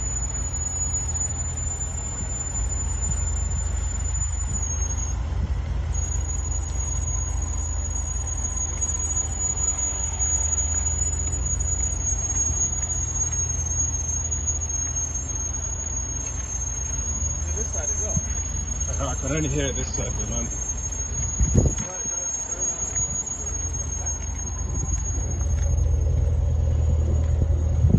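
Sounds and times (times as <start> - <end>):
car rumble: 0.0 - 27.9
high-pitched brake squeal: 0.0 - 27.9.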